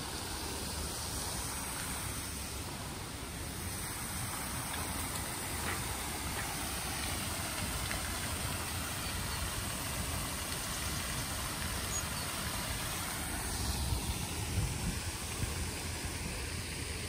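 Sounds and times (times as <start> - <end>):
fountain spraying and splashing: 0.0 - 17.0.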